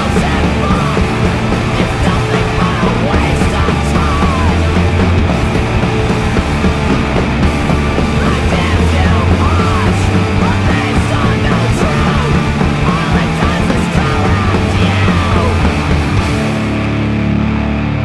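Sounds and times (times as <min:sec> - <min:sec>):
bass guitar: 0:00.0 - 0:18.0
distorted electric guitar: 0:00.0 - 0:18.0
drums: 0:00.0 - 0:18.0.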